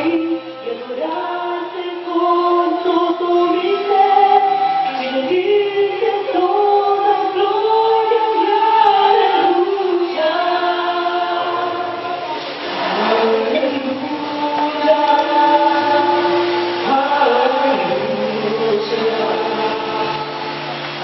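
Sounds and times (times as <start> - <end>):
sustained instrumental accompaniment: 0.0 - 21.0
woman singing into microphone: 0.0 - 21.0.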